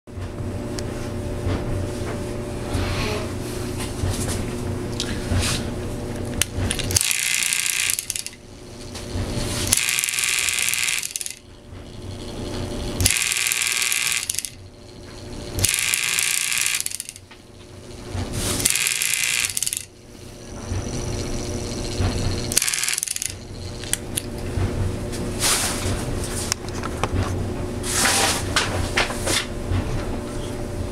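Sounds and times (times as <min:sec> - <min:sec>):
harsh mechanical buzz: 0:00.1 - 0:30.9
electric motor hum: 0:00.7 - 0:28.5.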